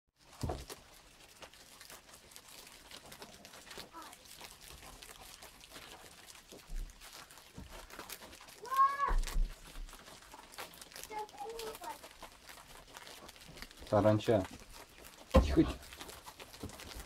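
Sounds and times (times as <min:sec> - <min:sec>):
leaf rustle: 0:00.2 - 0:17.0
rabbits chewing leaves: 0:00.2 - 0:17.0.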